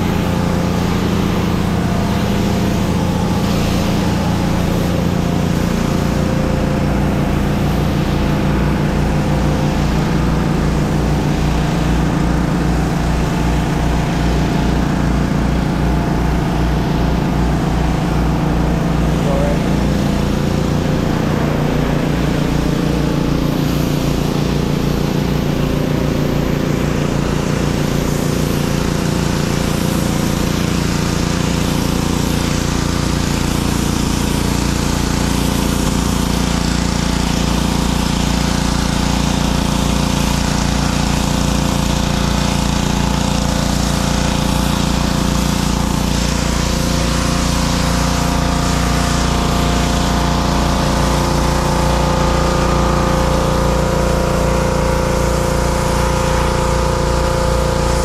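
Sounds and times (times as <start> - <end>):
pressure washer engines running: 0.0 - 58.0
water spray hissing on concrete: 0.0 - 58.0.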